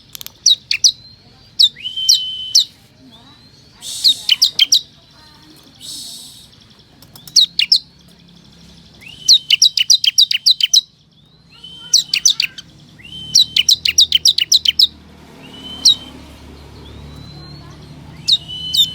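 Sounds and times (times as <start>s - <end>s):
bird song with high downslurred notes: 0.0s - 18.9s.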